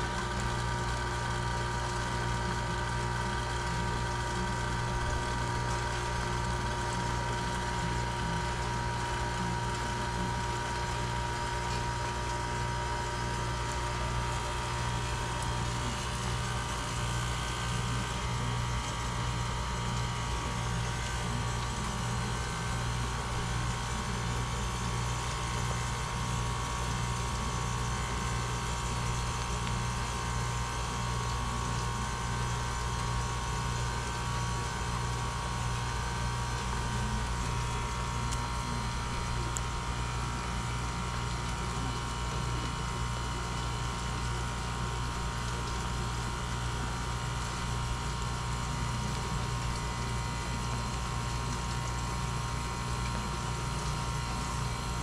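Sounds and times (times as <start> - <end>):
heat pump humming: 0.0 - 55.0.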